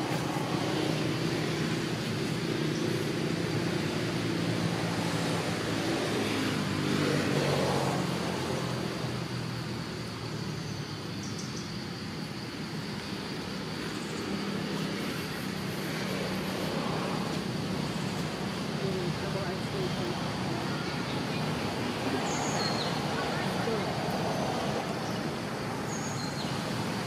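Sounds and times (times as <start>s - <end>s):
traffic hum: 0.0s - 27.0s.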